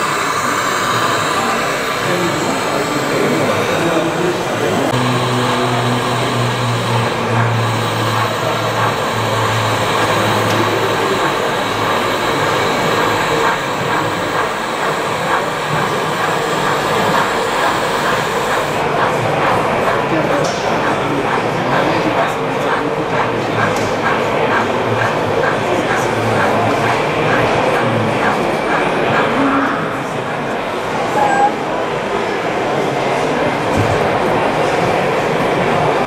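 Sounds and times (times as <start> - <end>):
model train rolling on rails: 0.0 - 31.5.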